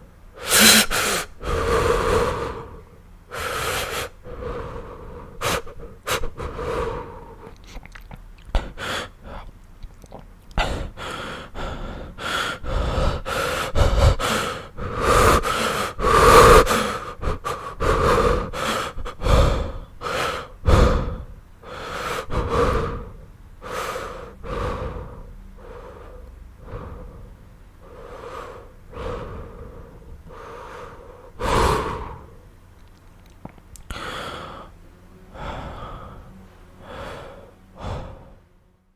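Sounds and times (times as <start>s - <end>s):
man breathing heavily wheezing: 0.0s - 7.6s, 8.5s - 9.6s, 10.5s - 32.4s, 33.8s - 38.5s.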